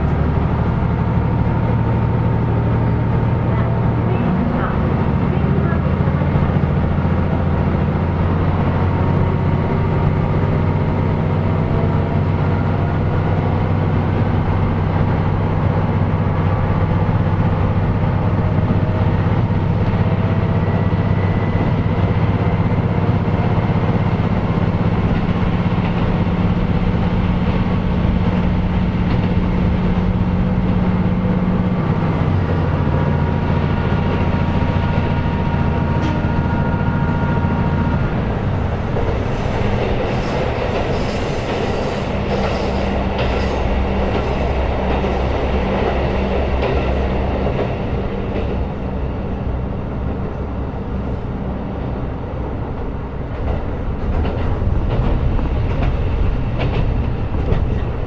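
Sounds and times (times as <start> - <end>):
diesel railcar engine drone: 0.0 - 58.0
wheel and track noise: 0.0 - 58.0.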